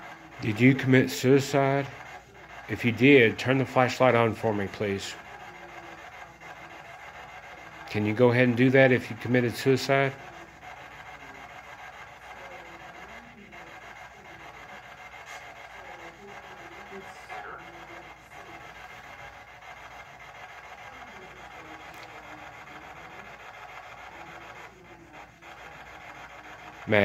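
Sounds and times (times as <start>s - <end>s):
muffled voices talking: 0.0s - 27.0s.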